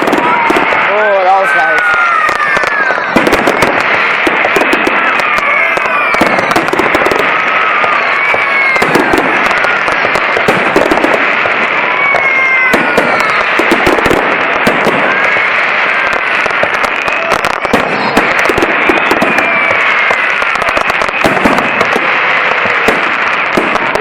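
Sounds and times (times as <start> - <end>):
firework falling whistles: 0.0 - 24.0
fireworks crackling bangs: 0.0 - 24.0.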